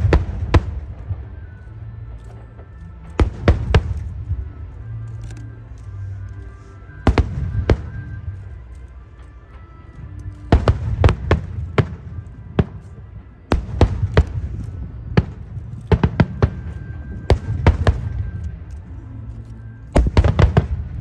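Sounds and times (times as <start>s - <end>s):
fireworks bursting with echo: 0.0s - 5.0s, 6.9s - 18.7s, 19.9s - 21.0s.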